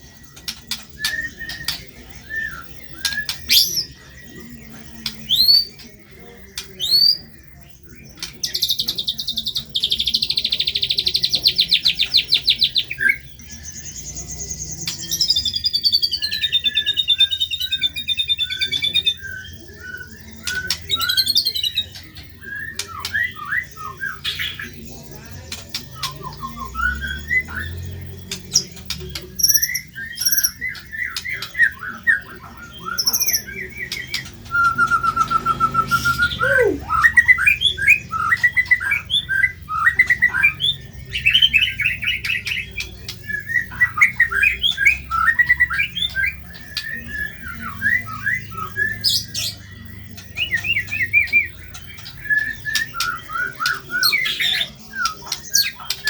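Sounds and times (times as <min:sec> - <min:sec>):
songbird singing rapid varied song: 0:00.0 - 0:56.0.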